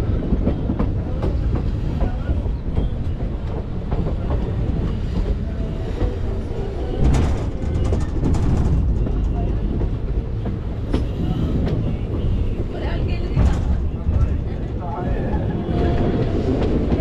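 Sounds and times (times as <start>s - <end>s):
train wheels rumbling and clicking: 0.0s - 17.0s.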